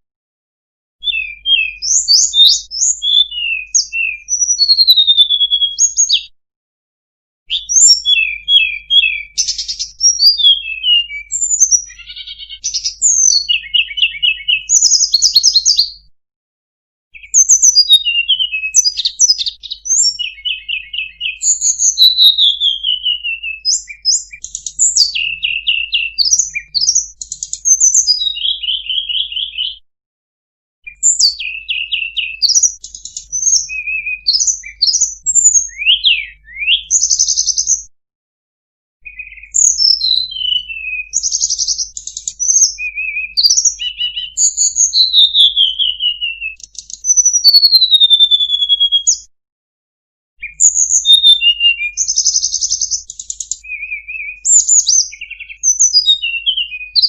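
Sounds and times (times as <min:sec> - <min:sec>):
bird singing chirps and trills: 0:01.0 - 0:06.3, 0:07.5 - 0:16.1, 0:17.2 - 0:29.8, 0:30.9 - 0:37.9, 0:39.0 - 0:49.3, 0:50.4 - 0:57.0.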